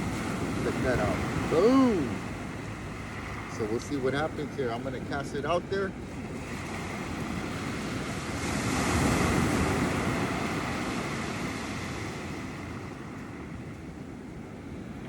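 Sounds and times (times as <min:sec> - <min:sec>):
wind on microphone: 0:00.0 - 0:05.2, 0:05.8 - 0:15.0
ocean wave washing: 0:00.0 - 0:15.0.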